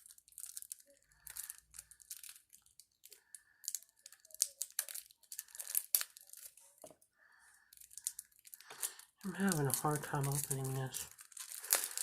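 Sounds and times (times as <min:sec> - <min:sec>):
packaging torn and crinkled: 0:00.0 - 0:06.8, 0:07.7 - 0:12.0.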